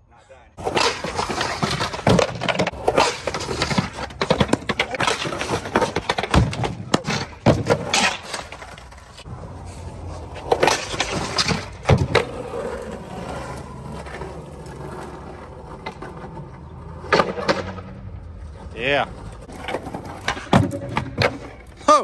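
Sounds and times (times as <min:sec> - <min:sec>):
skateboard clattering on concrete: 0:00.6 - 0:09.4, 0:10.0 - 0:17.9, 0:19.1 - 0:21.8
skateboard wheels rolling on pavement: 0:00.6 - 0:22.0.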